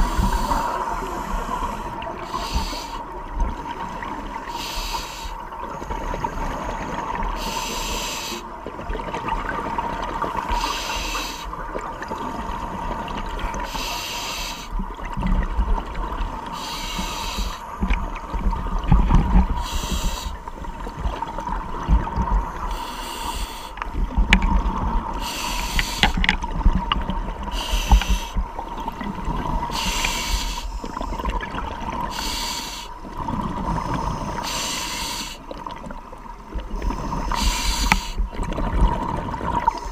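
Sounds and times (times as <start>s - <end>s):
exhaled bubbles gurgling: 0.0s - 39.9s.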